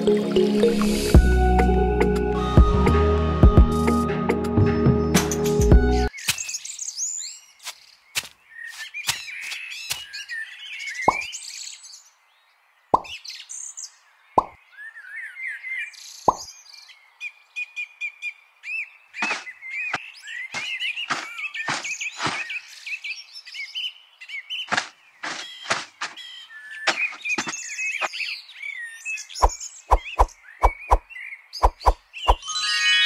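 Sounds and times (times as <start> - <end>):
birds chirping: 4.8 - 33.0.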